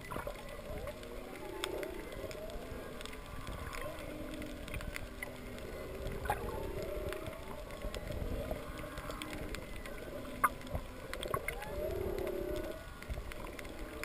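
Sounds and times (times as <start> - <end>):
clicks and snaps from reef: 0.0 - 14.0
whale song underwater: 0.0 - 14.0.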